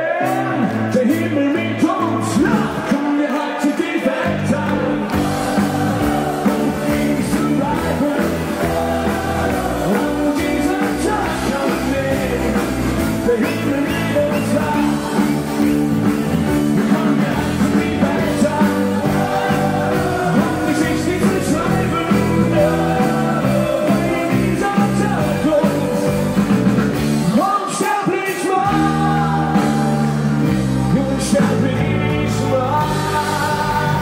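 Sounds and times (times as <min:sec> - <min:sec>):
person singing: 0:00.0 - 0:26.6, 0:27.3 - 0:34.0
live rock band playing: 0:00.0 - 0:34.0.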